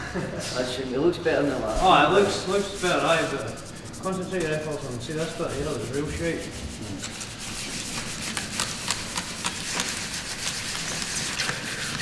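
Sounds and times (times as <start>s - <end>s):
sandpaper rubbing metal: 1.0s - 12.0s.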